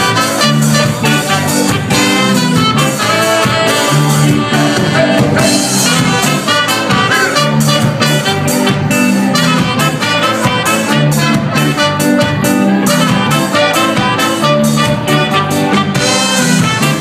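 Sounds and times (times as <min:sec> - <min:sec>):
congas: 0:00.0 - 0:17.0
drum kit: 0:00.0 - 0:17.0
horn section: 0:00.0 - 0:17.0
repeating bass line: 0:00.0 - 0:17.0.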